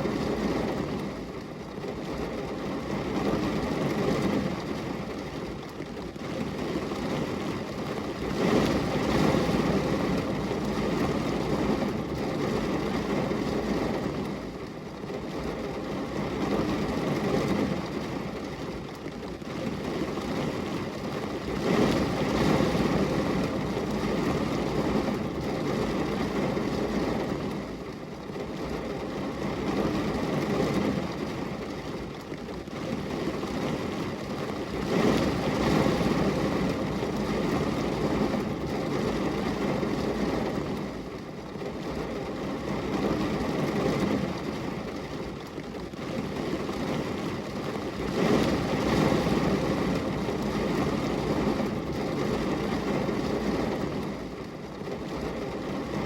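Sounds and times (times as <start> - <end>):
rain rushing: 0.1 - 56.0.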